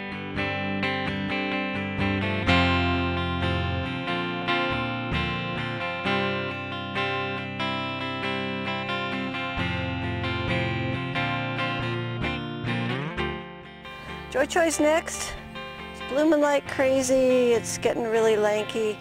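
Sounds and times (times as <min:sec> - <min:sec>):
instrumental guitar music: 0:00.0 - 0:19.0.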